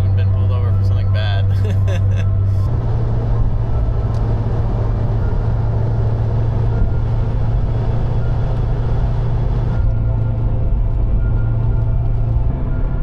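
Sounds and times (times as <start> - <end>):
car engine drone: 0.0 - 13.0
road and tyre noise: 0.0 - 13.0.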